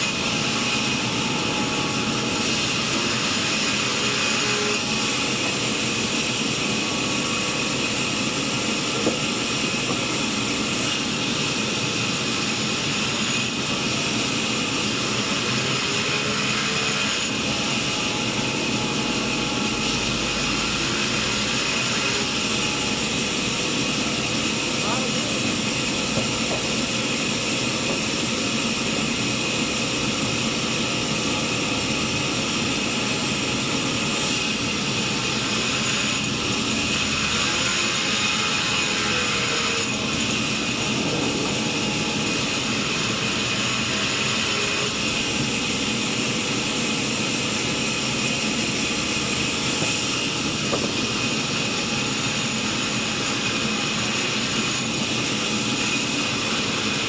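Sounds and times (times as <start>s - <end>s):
sawmill saw whining: 0.0s - 57.0s.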